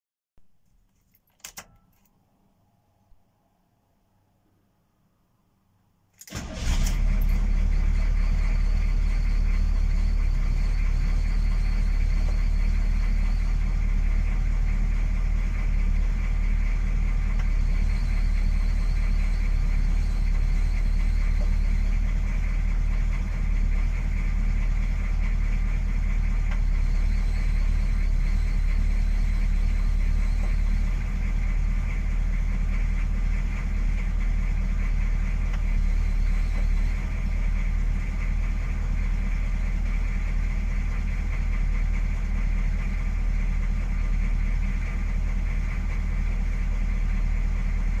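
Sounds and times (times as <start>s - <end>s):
diesel engine idling: 6.3s - 48.0s.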